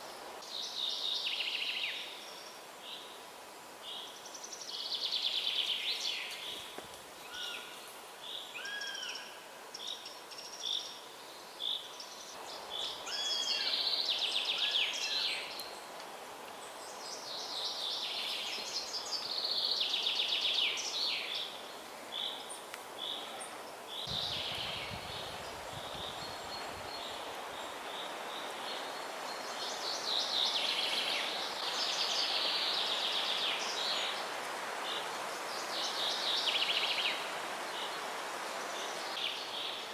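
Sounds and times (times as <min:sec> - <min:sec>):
background hiss: 0:00.0 - 0:39.9
songbirds singing: 0:03.9 - 0:39.9.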